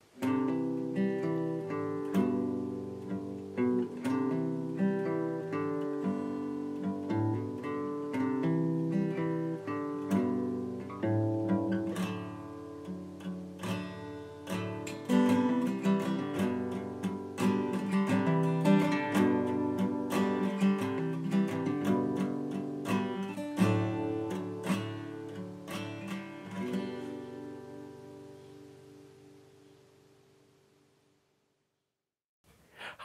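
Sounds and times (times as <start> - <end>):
acoustic guitar picking a melody: 0.0 - 31.2.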